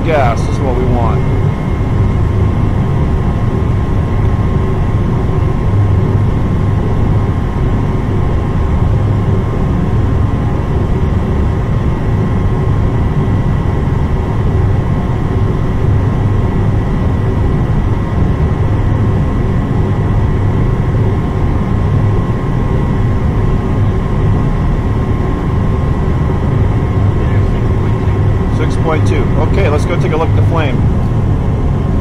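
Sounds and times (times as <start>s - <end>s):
blower high whine: 0.0s - 32.0s
gas burners rumbling: 0.0s - 32.0s.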